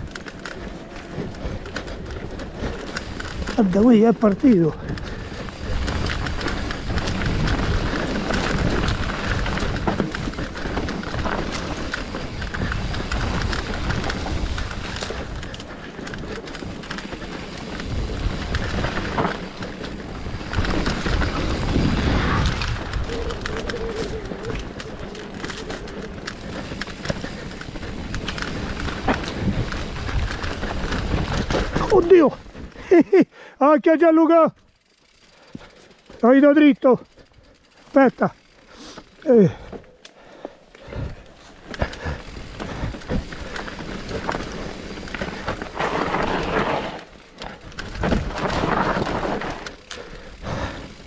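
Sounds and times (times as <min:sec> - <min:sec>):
bike rattling over bumps: 0:00.0 - 0:33.0, 0:34.1 - 0:51.0
bike tyres rolling over dirt: 0:00.0 - 0:33.1, 0:33.9 - 0:51.0.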